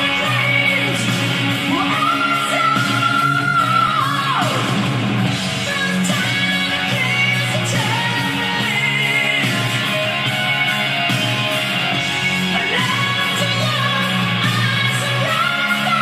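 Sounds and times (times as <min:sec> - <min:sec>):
rock song through speakers: 0:00.0 - 0:16.0.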